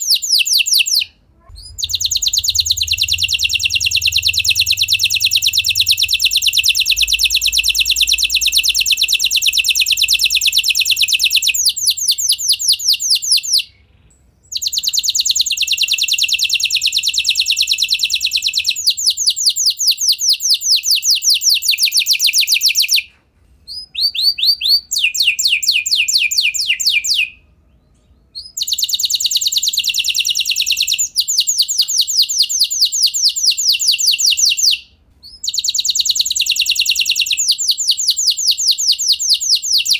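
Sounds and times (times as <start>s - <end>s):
canary singing trills: 0.0s - 23.0s, 23.7s - 39.9s.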